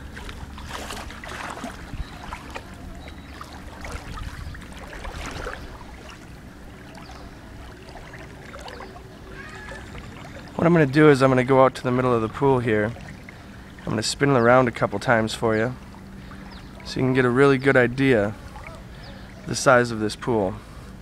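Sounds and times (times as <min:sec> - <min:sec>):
water splashing: 0:00.0 - 0:19.8
pool water sloshing: 0:00.0 - 0:21.0.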